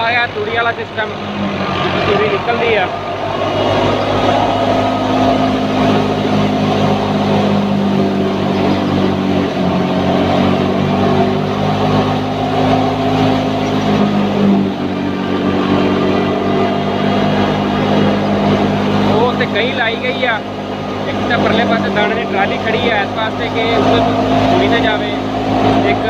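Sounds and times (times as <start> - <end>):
thresher mechanical drone: 0.0 - 26.0.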